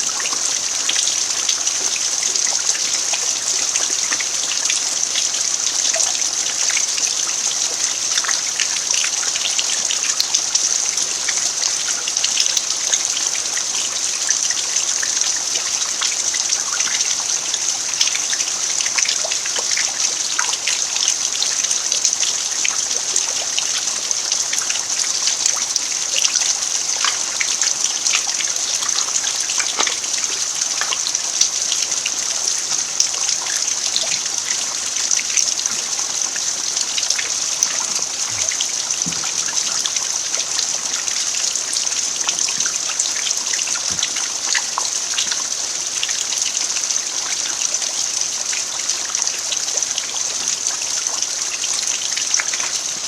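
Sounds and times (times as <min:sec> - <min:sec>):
rain falling on earth: 0:00.0 - 0:53.0.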